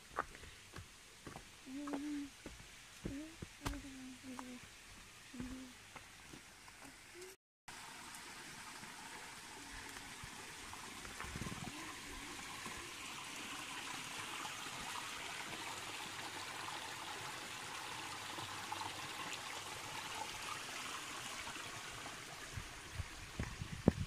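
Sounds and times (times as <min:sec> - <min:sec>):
brook trickling over rocks: 0:00.0 - 0:24.0.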